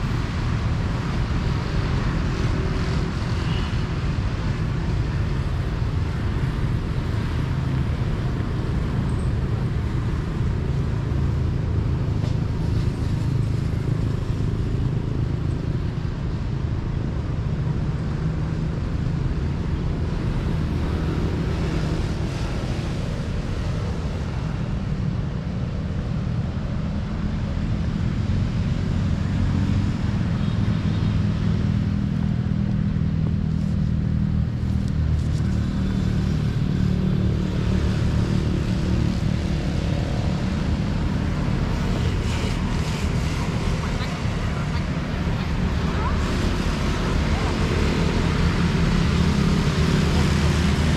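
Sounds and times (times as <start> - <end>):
motorbikes and cars humming: 0.0 - 50.9.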